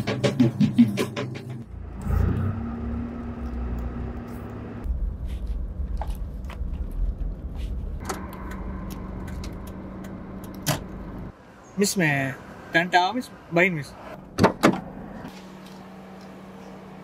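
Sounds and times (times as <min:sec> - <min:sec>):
engine and road rumble: 0:00.6 - 0:17.0.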